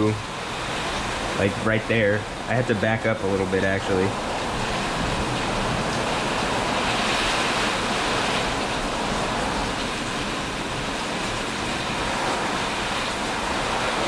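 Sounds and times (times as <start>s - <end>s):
wind gusting: 0.0s - 14.0s.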